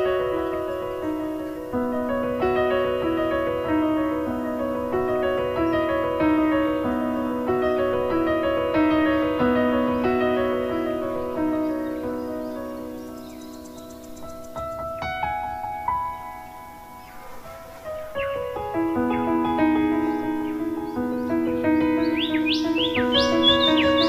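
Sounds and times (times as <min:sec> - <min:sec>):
slow gentle piano music: 0:00.0 - 0:24.0.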